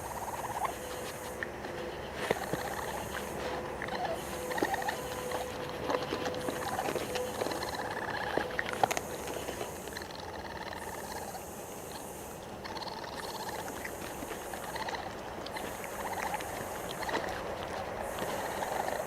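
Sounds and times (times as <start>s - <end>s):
steady hiss: 0.0s - 17.1s
raccoon chittering calls: 0.0s - 19.0s.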